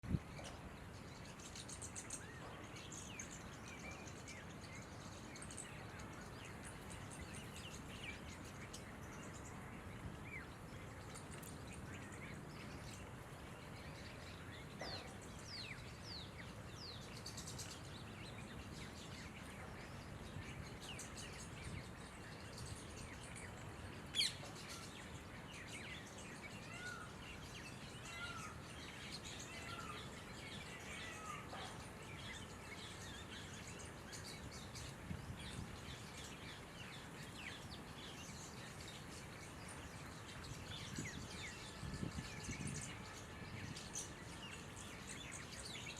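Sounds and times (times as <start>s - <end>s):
small birds chirping and whistling: 0.0s - 45.9s
steady background hiss: 0.0s - 45.9s.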